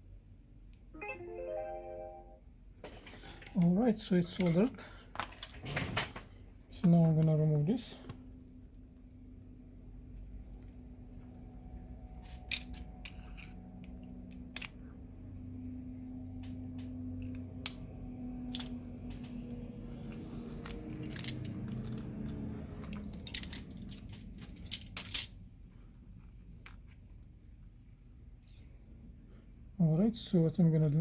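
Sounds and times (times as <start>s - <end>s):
low steady hum: 0.0s - 5.6s, 6.2s - 31.0s.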